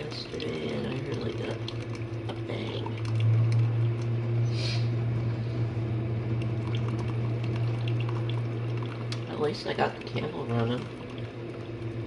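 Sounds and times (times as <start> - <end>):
water spraying and sloshing: 0.0 - 4.4, 6.2 - 12.0
dishwasher pump hum: 0.0 - 12.0.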